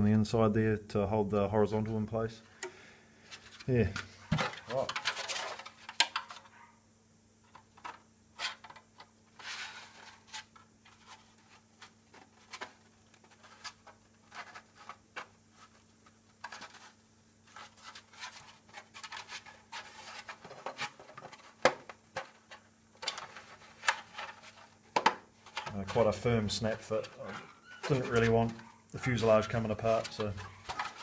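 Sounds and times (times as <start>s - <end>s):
plastic rubbing and scraping: 3.3s - 6.5s, 7.4s - 31.0s.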